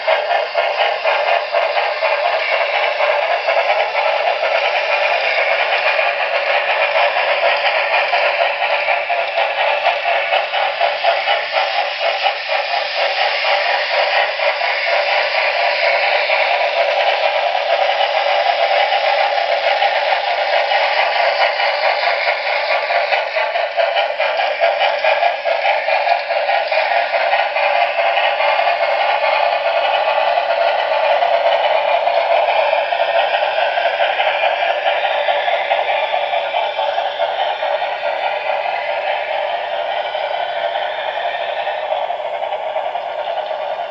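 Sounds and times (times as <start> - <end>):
model locomotive sound from speakers: 0.0 - 43.9.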